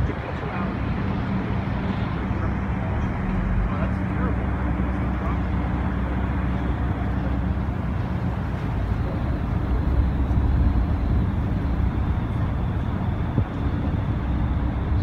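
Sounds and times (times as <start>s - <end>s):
constant wash of noise: 0.0s - 15.0s
ferry engines rumbling: 0.0s - 15.0s.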